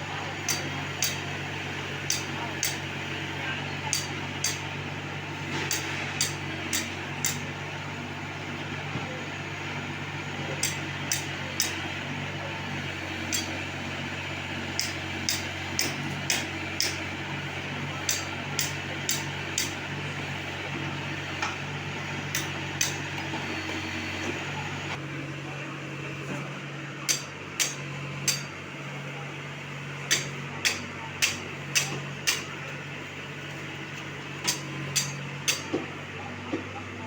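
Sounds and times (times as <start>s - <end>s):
loader engine running: 0.0s - 37.0s.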